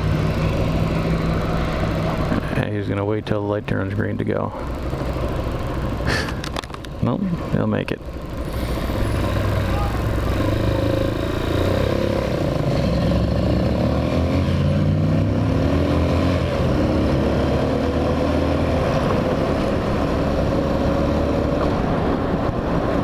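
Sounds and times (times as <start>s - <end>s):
motorcycle engine accelerating: 0.0s - 2.6s, 3.8s - 23.0s.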